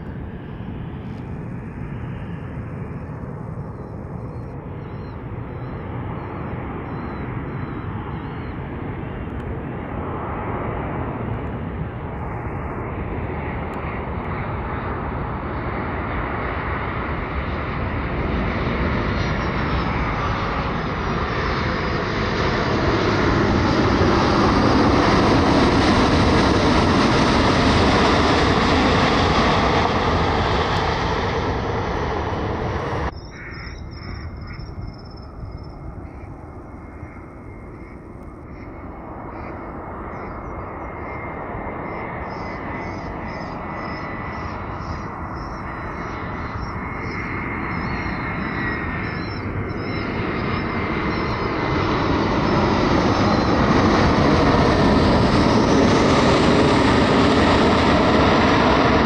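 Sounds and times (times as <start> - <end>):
jet airliner passing: 0.0 - 59.0
jet engine whine: 0.0 - 59.0.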